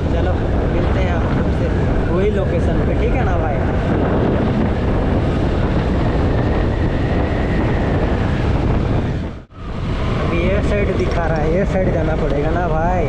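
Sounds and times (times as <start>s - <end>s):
scooter engine and road noise: 0.0s - 13.0s
wind buffeting microphone: 0.0s - 13.0s.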